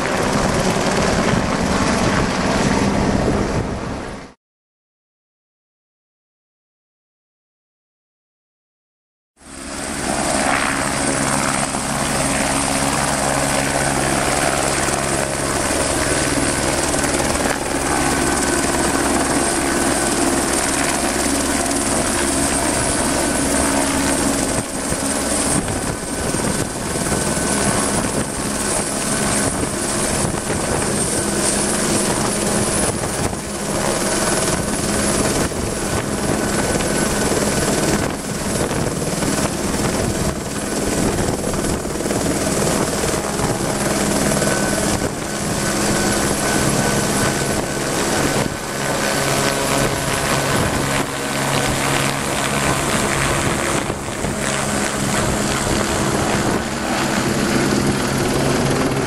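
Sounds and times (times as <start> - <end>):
helicopter rotor blade chop: 0.0 - 4.3, 9.4 - 59.0
helicopter turbine whine: 0.0 - 4.4, 9.4 - 59.0.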